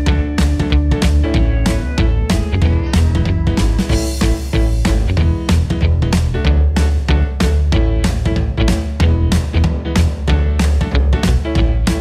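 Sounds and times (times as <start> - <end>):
upbeat guitar music with beat: 0.0 - 12.0.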